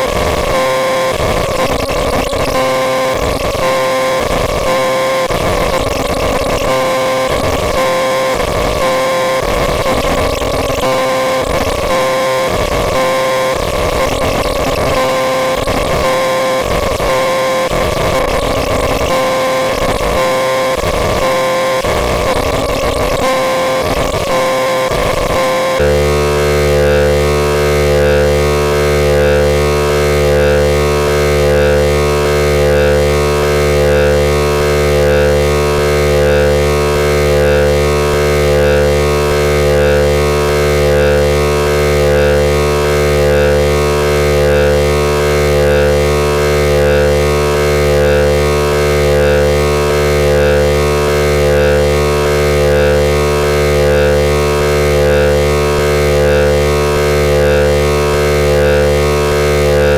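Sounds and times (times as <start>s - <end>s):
throbbing synthesizer drone: 0.0s - 59.9s.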